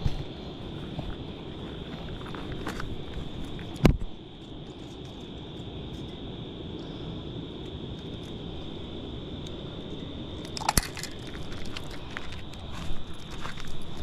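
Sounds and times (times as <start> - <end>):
crackling handling noise: 0.0 - 6.2, 7.6 - 14.0
high insect trill: 0.0 - 14.0
low outdoor hiss: 0.0 - 14.0.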